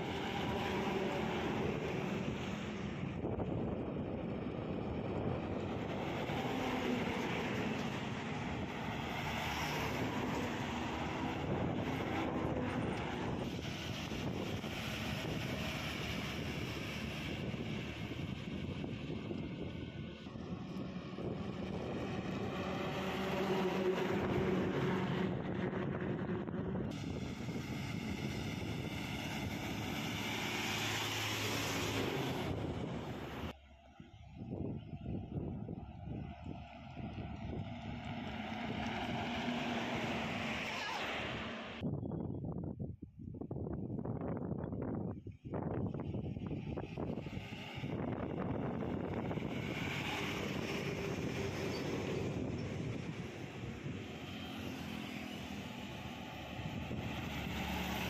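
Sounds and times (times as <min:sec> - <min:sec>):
truck diesel engine passing: 0:00.0 - 0:41.8, 0:46.4 - 0:58.0
tyre and road noise: 0:00.0 - 0:41.9, 0:44.4 - 0:58.0.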